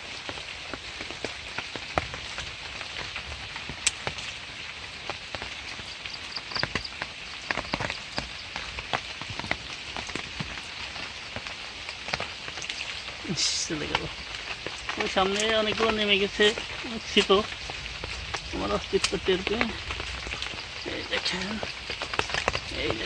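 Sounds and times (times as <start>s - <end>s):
rain falling on a pond: 0.0s - 23.0s.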